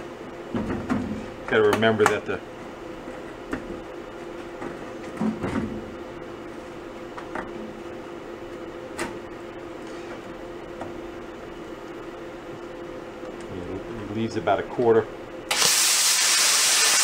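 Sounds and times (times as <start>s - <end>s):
machine hum: 0.0s - 15.7s.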